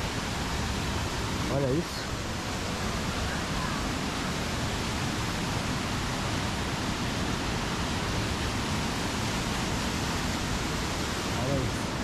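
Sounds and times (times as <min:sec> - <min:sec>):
waterfall over rocks: 0:00.0 - 0:12.0.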